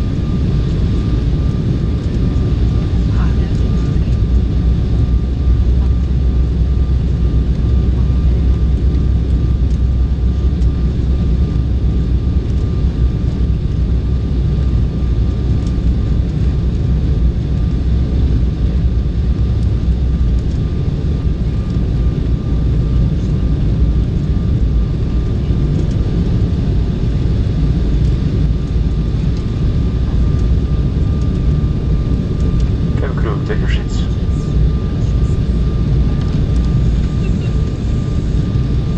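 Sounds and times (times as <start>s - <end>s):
airliner cabin rumble: 0.0s - 38.9s
faint steady whine: 0.0s - 38.9s.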